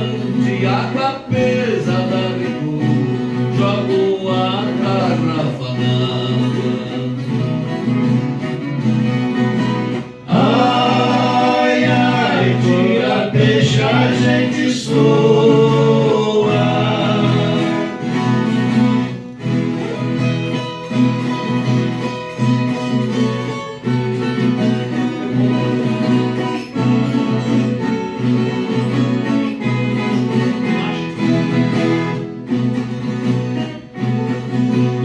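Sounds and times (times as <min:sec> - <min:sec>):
plucked string melody: 0:00.0 - 0:35.0
strummed acoustic guitar: 0:00.0 - 0:35.0.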